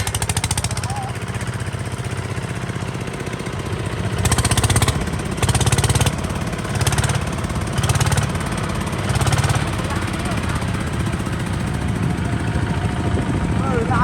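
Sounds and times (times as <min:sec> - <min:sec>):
diesel engine chugging: 0:00.0 - 0:14.0.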